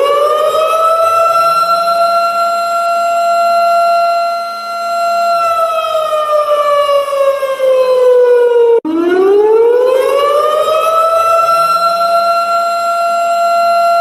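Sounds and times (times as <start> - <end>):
warning siren wailing: 0.0 - 14.0.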